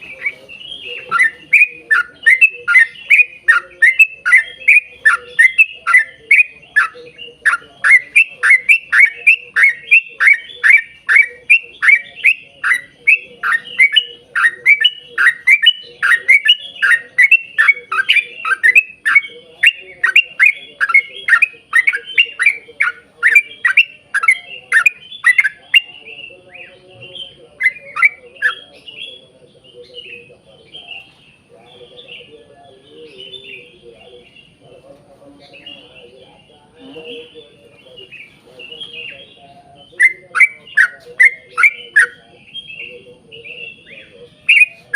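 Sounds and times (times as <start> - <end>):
bulbul singing rapid chirps: 0.0 - 44.9.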